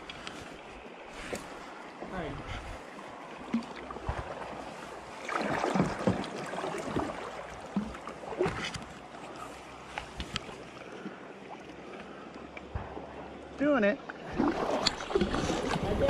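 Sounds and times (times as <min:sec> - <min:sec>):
paddle strokes splashing water: 0:00.0 - 0:16.0.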